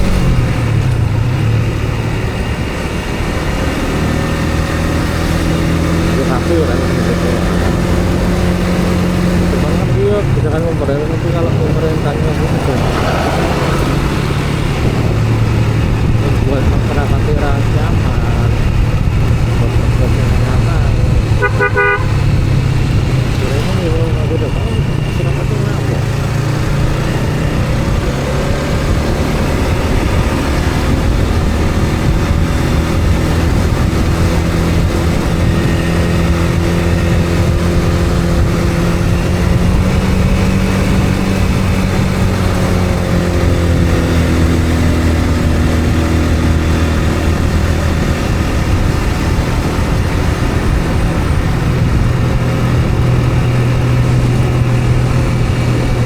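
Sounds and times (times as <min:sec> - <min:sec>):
road noise: 0:00.0 - 0:56.0
vehicle engine humming: 0:00.0 - 0:56.0.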